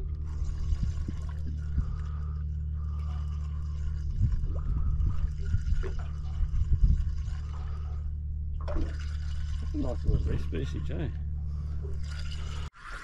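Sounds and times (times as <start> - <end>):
water lapping against boat hull: 0.0 - 12.7
steady low drone: 0.0 - 12.8.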